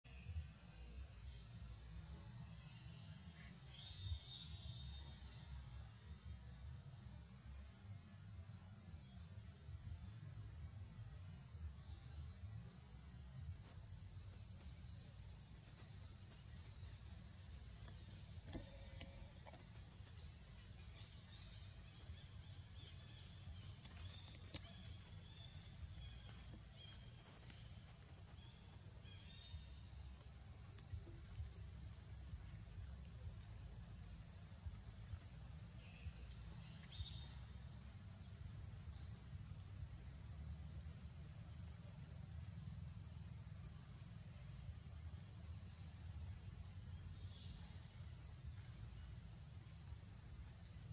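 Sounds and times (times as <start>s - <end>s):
high-pitched insect chorus: 0.1s - 50.9s.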